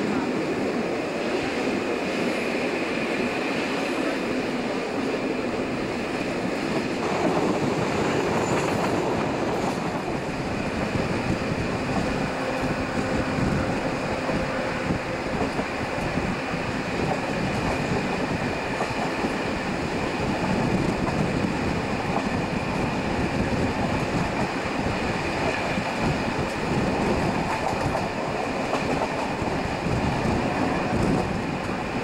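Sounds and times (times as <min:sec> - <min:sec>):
rushing air: 0:00.0 - 0:32.0
train wheels rolling on rails: 0:00.0 - 0:32.0.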